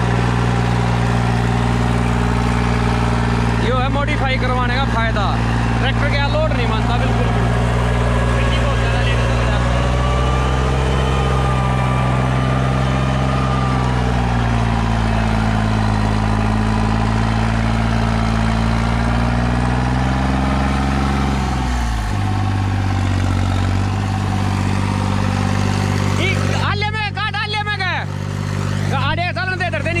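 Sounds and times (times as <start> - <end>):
tractor diesel engine running hard: 0.0 - 30.0.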